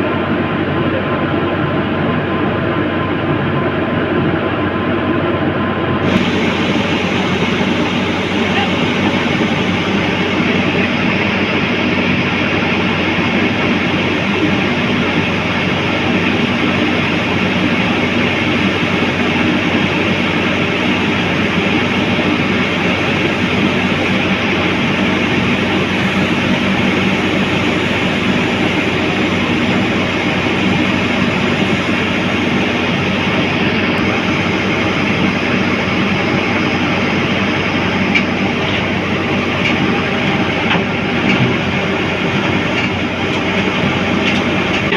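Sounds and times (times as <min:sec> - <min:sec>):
diesel engine running at high revs: 0:00.0 - 0:44.9.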